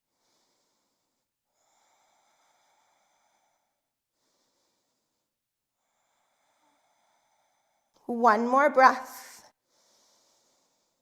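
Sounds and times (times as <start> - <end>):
slow breathing through nose: 0.0 - 8.0, 9.5 - 11.0.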